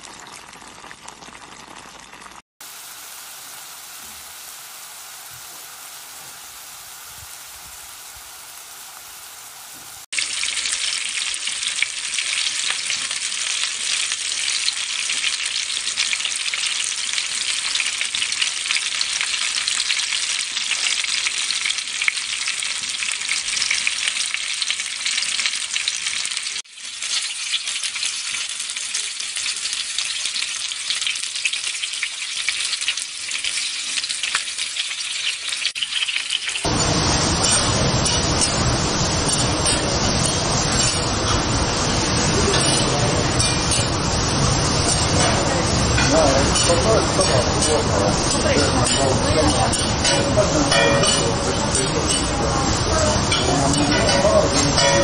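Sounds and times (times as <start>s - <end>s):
dense crackling sizzle of frying: 0.0s - 55.0s
patties sizzling in a pan: 0.0s - 55.0s.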